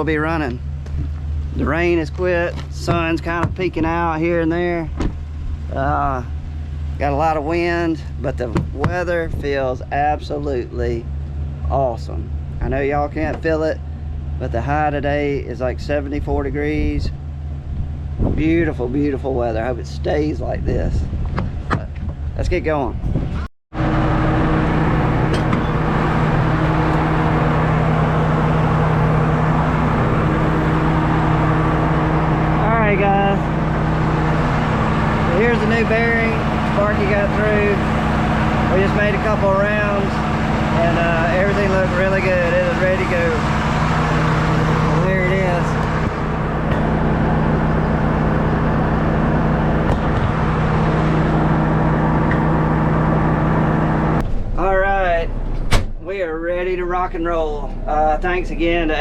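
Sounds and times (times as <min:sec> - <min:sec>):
combine harvester running: 0:00.0 - 0:20.8, 0:23.8 - 0:59.0.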